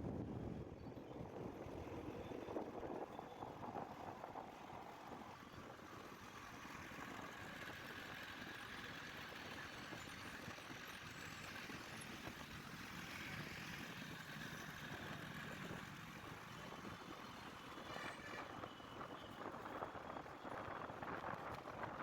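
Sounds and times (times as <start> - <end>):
road traffic noise: 0.4 - 22.0.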